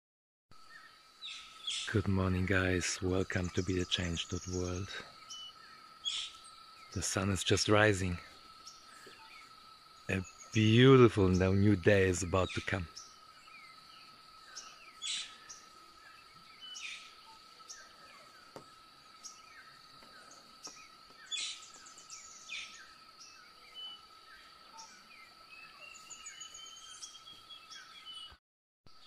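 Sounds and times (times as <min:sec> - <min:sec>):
bird trill: 0:00.6 - 0:18.6, 0:19.2 - 0:28.4
insect drone: 0:00.6 - 0:28.3
birds chirping and calling: 0:00.6 - 0:28.4.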